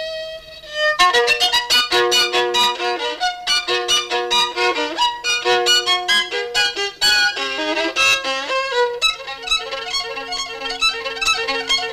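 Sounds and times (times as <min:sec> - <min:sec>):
violin playing fast runs: 0:00.0 - 0:11.9.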